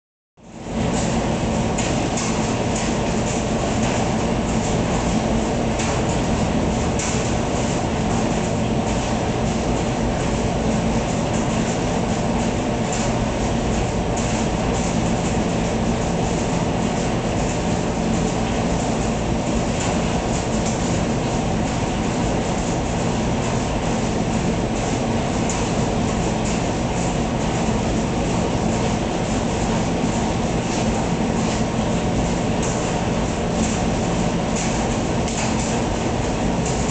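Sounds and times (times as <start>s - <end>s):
tumble dryer rumbling: 0.6s - 36.9s.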